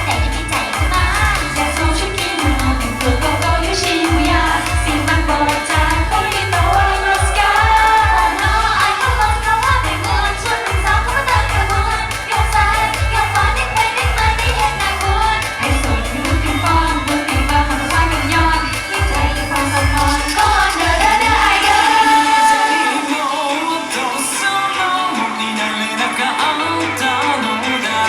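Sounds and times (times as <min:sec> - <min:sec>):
pop song with female singing: 0:00.0 - 0:28.0.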